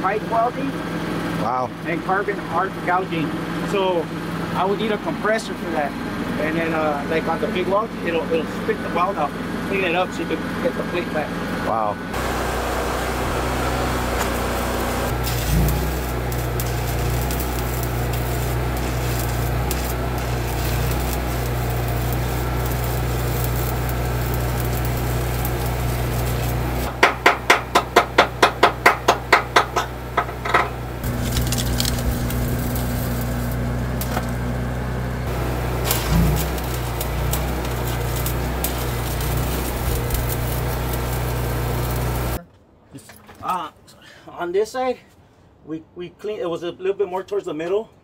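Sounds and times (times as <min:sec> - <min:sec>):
welder-generator engine humming: 0:00.0 - 0:42.4.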